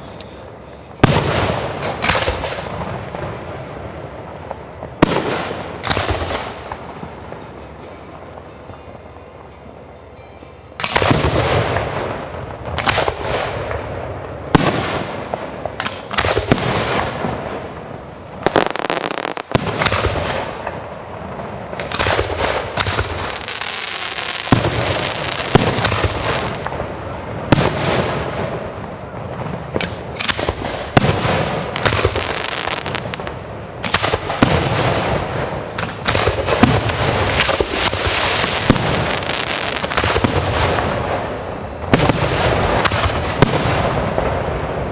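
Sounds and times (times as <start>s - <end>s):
fireworks crackle: 0.0s - 9.2s, 10.8s - 44.9s.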